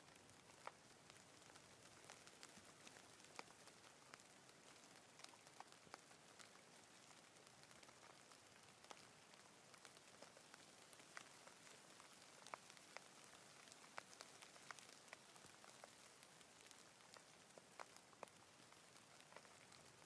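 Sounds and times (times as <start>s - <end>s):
light rain hiss: 0.0s - 20.0s
raindrops ticking: 0.0s - 20.0s.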